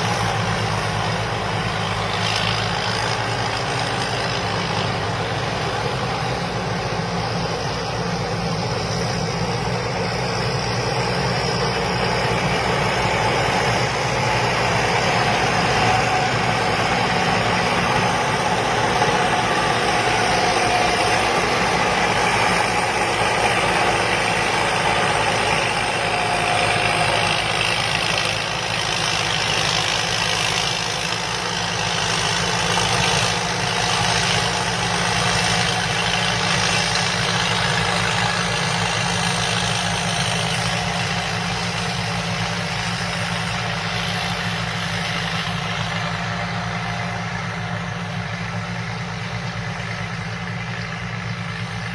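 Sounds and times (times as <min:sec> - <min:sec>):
diesel engine running: 0:00.0 - 0:51.9
machine whine: 0:00.0 - 0:51.9.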